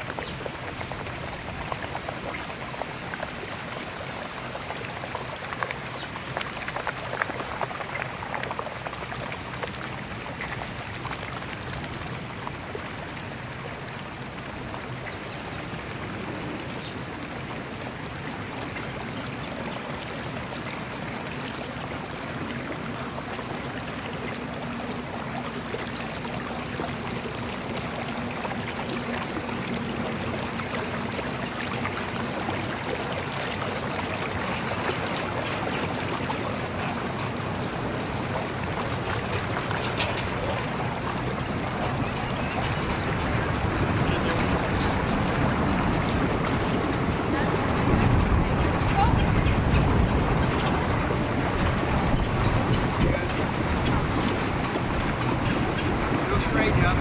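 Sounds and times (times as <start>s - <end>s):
boat engine humming: 0.0s - 57.0s
water lapping against hull: 0.0s - 57.0s.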